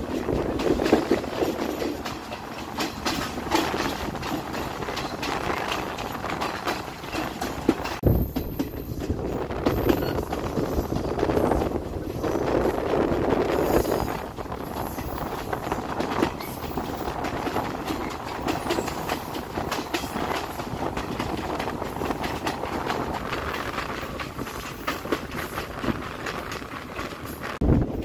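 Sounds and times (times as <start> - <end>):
train rumbling: 0.0 - 28.0
wheels clicking over rails: 0.0 - 28.0.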